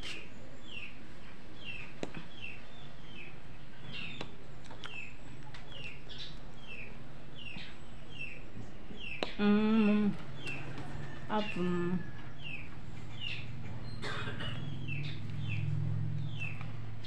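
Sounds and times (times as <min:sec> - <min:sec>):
bird chirping: 0:01.6 - 0:17.0.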